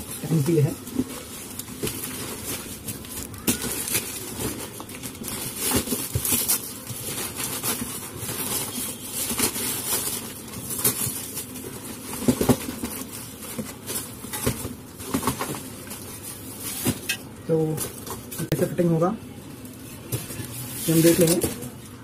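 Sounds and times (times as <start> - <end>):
cardboard packing scraping: 0.0 - 17.2, 19.6 - 22.0
plastic wrapping crinkling: 0.0 - 22.0.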